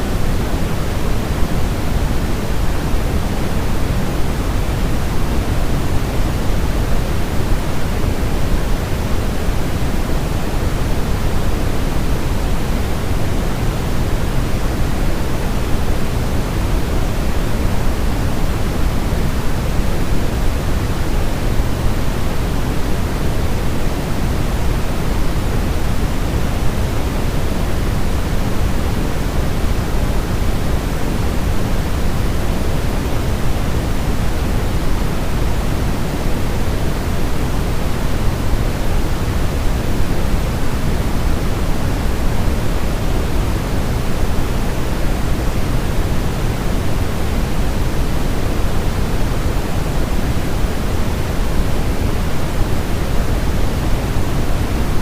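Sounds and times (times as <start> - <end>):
low white noise hiss: 0.0 - 55.0.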